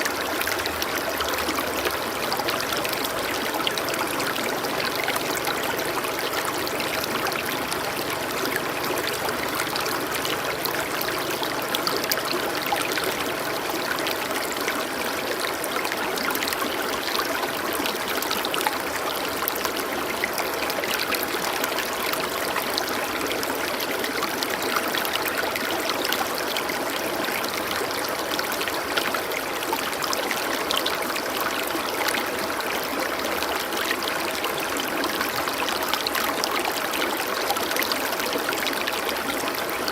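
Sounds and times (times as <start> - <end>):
stream water rushing and trickling: 0.0 - 39.9.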